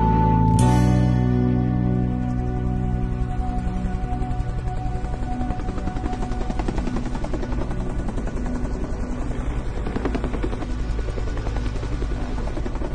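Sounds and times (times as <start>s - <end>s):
held sustained notes: 0.0s - 12.6s.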